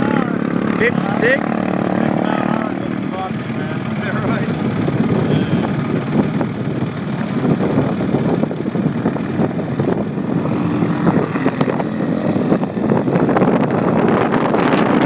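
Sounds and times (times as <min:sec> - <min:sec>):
lawnmower engine running: 0:00.0 - 0:13.6.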